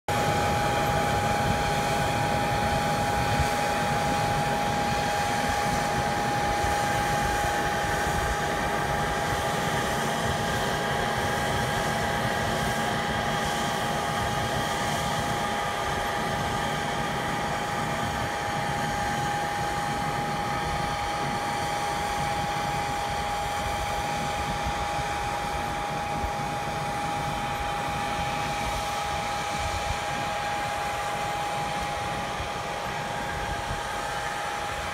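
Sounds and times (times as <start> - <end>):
machine high whine: 0.1 - 34.9.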